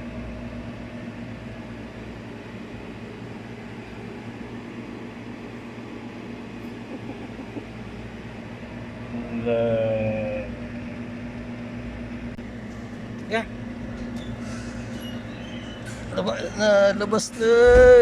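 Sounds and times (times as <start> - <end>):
low electrical drone: 0.0 - 18.0.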